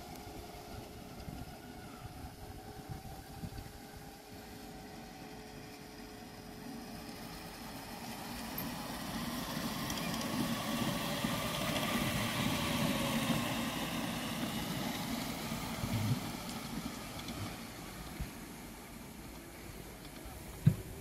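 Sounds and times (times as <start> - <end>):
miniature train rumbling on track: 0.0 - 21.0.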